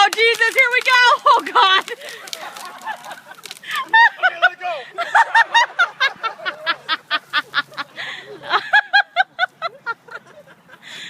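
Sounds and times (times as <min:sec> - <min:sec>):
people laughing hard: 0:01.3 - 0:11.0.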